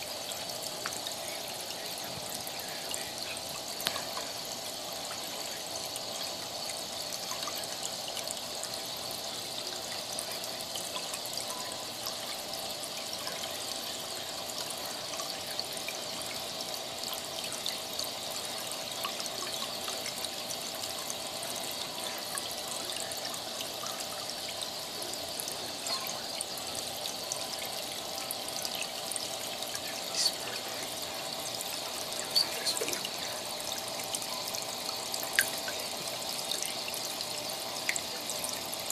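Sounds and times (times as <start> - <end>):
aquarium water trickling: 0.0 - 38.9.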